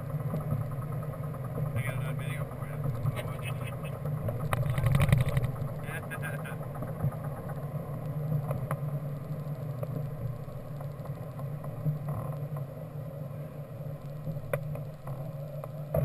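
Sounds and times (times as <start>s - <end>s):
wheel rumbling on runway: 0.0s - 16.0s.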